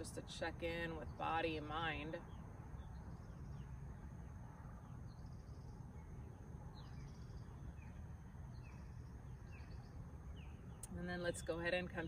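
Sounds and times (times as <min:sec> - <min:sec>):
bird chirping: 0:01.0 - 0:11.8.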